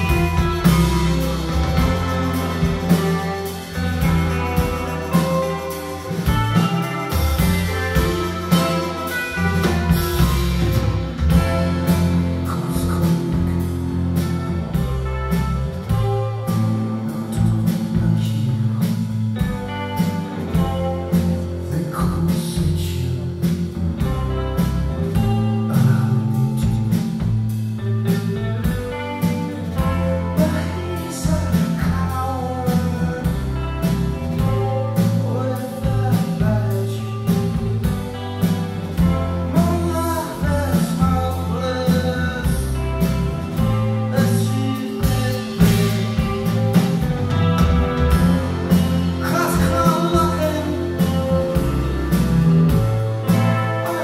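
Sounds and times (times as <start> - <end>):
bass guitar: 0.0 - 54.0
drum kit beat: 0.0 - 54.0
electric guitars: 0.0 - 54.0.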